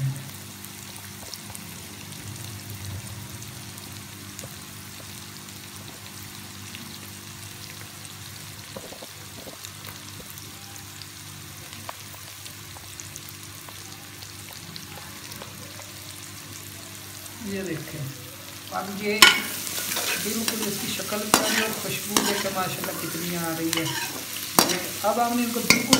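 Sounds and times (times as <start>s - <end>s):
food sizzling in oil: 0.0s - 25.9s.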